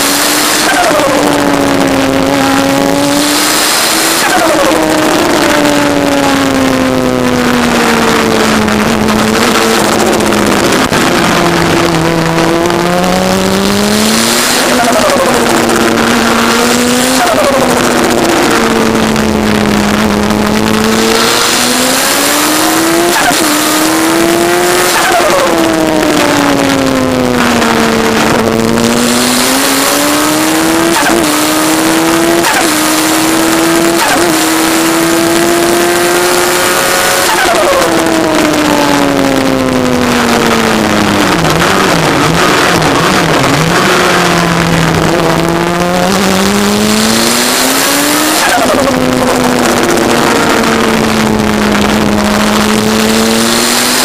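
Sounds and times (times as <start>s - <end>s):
racing engine revving: 0.0s - 54.0s
wind noise on microphone: 0.0s - 54.0s.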